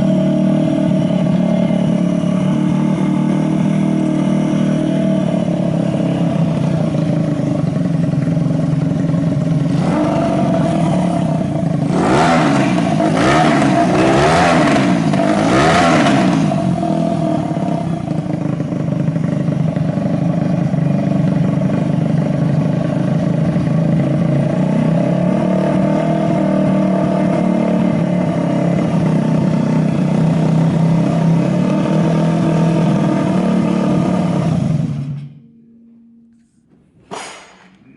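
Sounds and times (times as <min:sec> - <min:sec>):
small engine idling and revving: 0:00.0 - 0:35.4.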